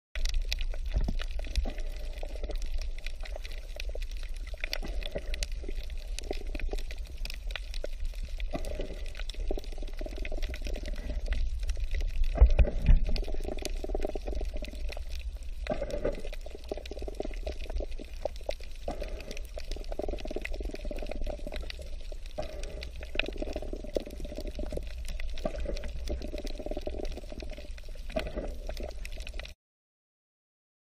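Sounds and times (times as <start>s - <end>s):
muffled underwater rumble: 0.2s - 29.6s
water gurgling and sloshing: 0.2s - 29.6s.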